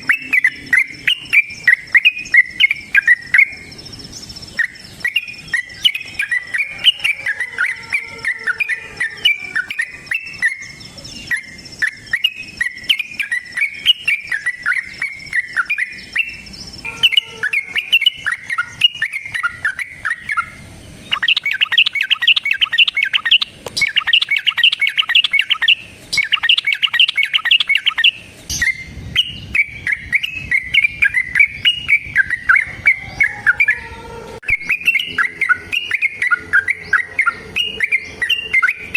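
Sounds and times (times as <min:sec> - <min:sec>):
bird chattering song and trill: 0:00.0 - 0:38.9.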